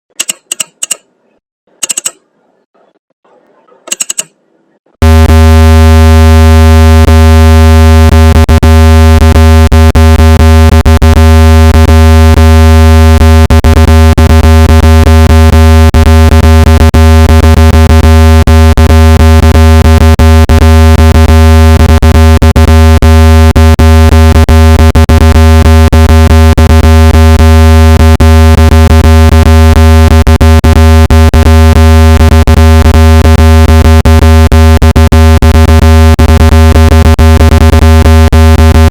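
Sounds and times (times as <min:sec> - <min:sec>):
low synthetic buzzing tone: 0:05.0 - 0:38.9.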